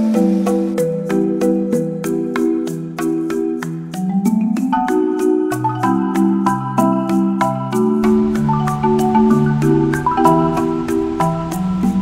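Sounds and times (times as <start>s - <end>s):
bright melody with beat: 0.0s - 12.0s.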